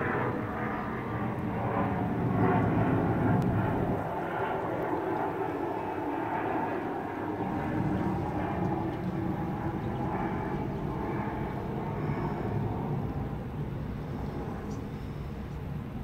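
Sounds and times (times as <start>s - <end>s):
distant engine rumble: 0.2s - 16.0s.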